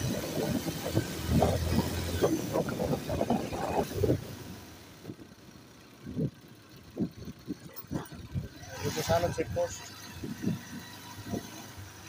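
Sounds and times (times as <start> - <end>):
wind buffeting microphone: 0.0 - 5.4, 6.0 - 11.7
motorcycle engine: 0.0 - 12.0.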